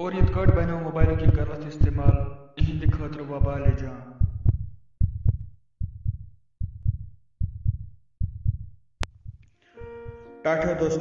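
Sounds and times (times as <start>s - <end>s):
heartbeat double thumps: 0.0s - 10.3s.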